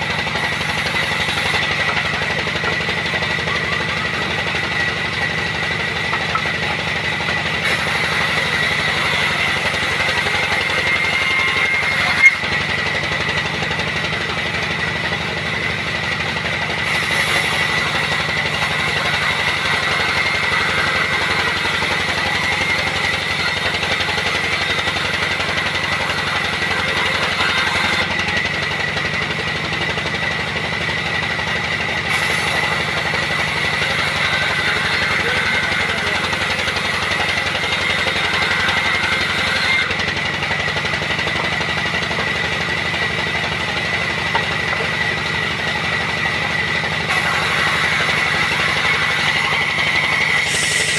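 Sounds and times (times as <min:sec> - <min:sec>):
sawmill machinery rumbling: 0:00.0 - 0:50.9.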